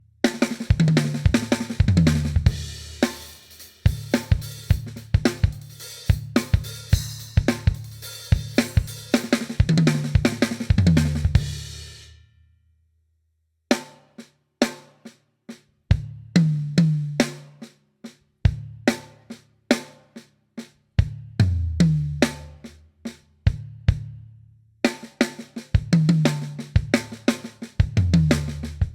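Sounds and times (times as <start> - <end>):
acoustic drum kit groove: 0.2 - 12.0, 13.7 - 24.2, 24.9 - 28.9.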